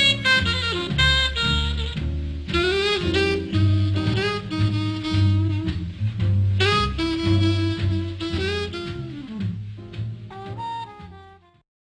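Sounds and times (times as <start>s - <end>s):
bass line: 0.0s - 11.6s
saxophone melody: 0.0s - 11.6s.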